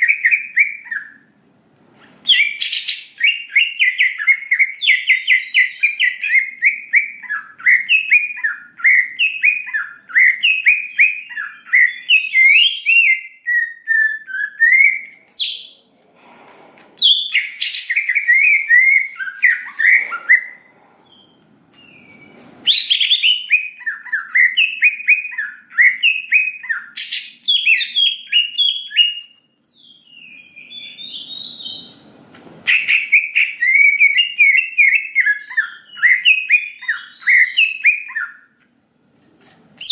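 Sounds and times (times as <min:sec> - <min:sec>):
bird singing chirps and whistles: 0:00.0 - 0:01.2, 0:02.2 - 0:15.8, 0:17.0 - 0:32.0, 0:32.7 - 0:38.5.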